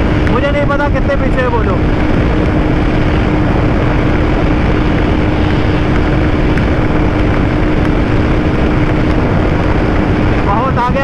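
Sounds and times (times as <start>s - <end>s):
motorcycle engine at high revs: 0.0s - 11.0s
wind rush on microphone: 0.0s - 11.0s.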